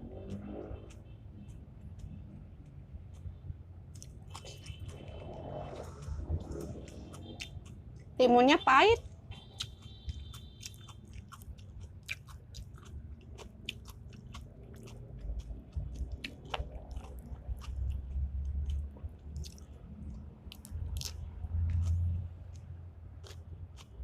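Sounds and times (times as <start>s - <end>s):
person chewing cucumber: 0.0s - 8.2s, 9.0s - 24.0s.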